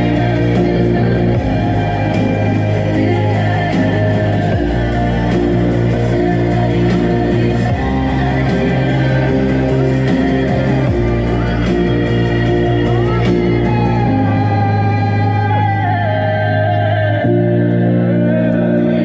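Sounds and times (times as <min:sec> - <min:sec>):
heavy bass notes and chords: 0:00.0 - 0:19.0
melodic vocal line: 0:00.0 - 0:19.0.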